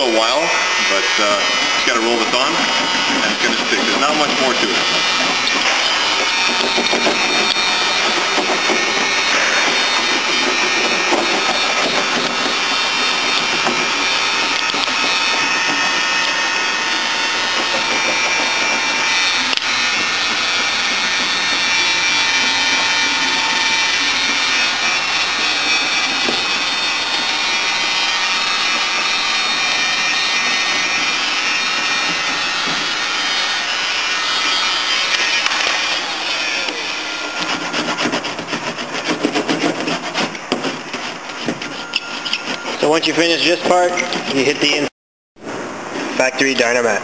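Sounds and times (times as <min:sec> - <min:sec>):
heat gun blowing: 0:00.1 - 0:44.8.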